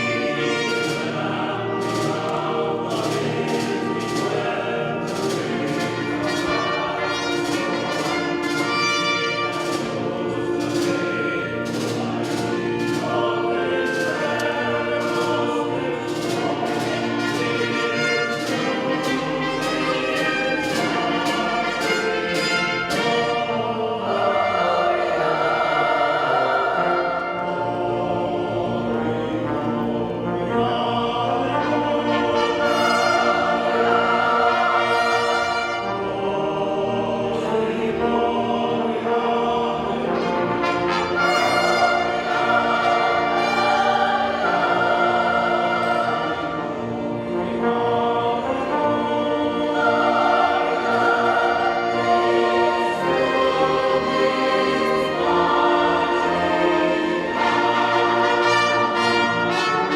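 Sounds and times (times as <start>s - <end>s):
choir singing: 0.0s - 59.9s
orchestra with brass playing: 0.0s - 59.9s.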